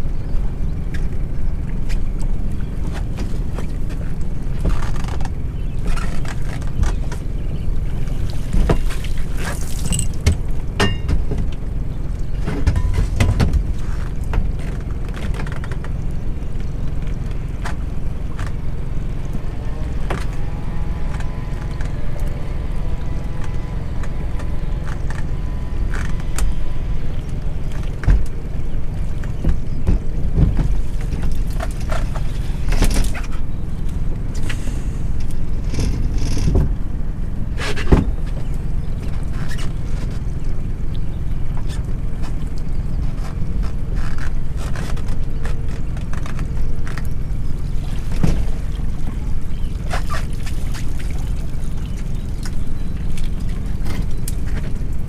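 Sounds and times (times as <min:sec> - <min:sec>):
water against boat hull: 0:00.1 - 0:55.0.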